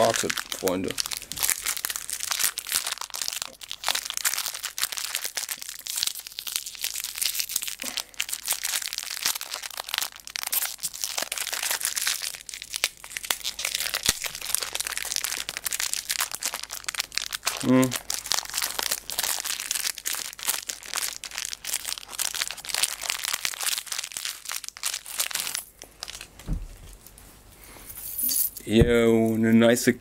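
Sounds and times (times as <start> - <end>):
plastic bag crinkling: 0.0 - 27.4.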